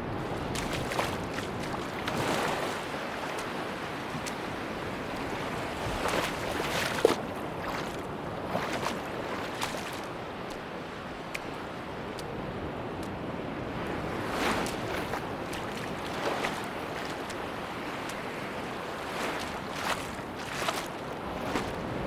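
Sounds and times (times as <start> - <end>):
sea surf washing on beach: 0.0 - 22.0.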